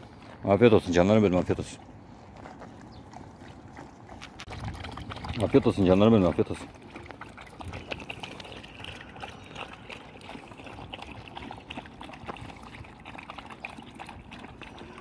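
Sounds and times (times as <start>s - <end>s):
dogs lapping water: 1.6s - 15.0s.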